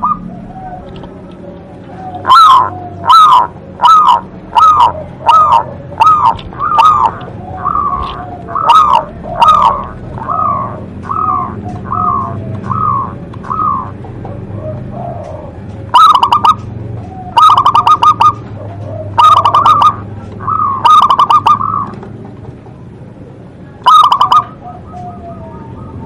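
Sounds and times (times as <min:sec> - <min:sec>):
dove cooing: 0:00.0 - 0:22.7, 0:23.8 - 0:26.0.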